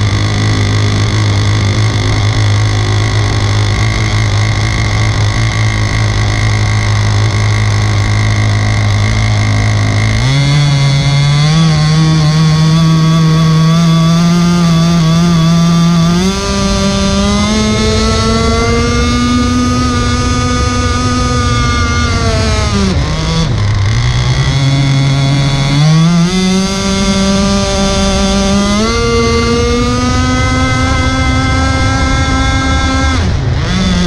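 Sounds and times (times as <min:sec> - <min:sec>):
two-stroke boat engine running: 0:00.0 - 0:34.0.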